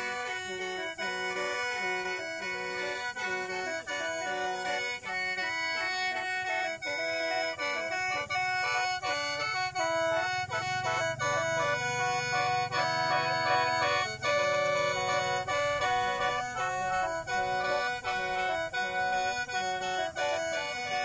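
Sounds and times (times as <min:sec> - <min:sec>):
bamboo mouth organ melody: 0:00.0 - 0:21.0.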